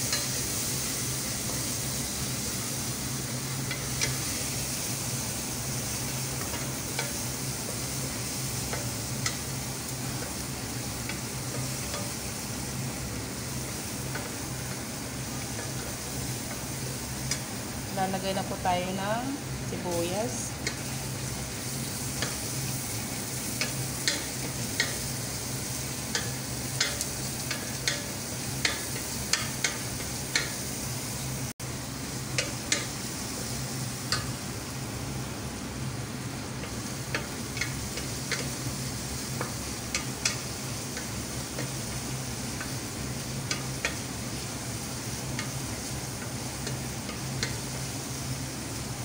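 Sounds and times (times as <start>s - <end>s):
onion and garlic sizzling in oil: 0.0s - 49.0s.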